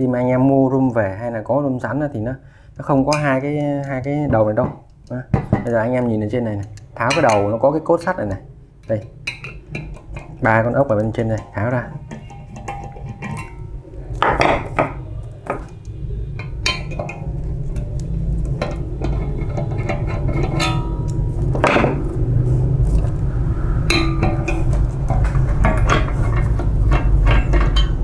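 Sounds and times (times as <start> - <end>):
steady low hum: 2.1 - 28.0.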